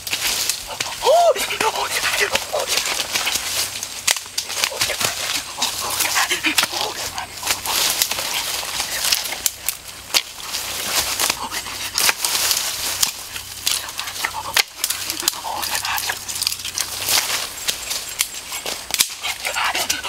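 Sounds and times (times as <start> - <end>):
dry grass and leaves rustling: 0.0 - 20.0
twigs snapping: 0.0 - 20.0.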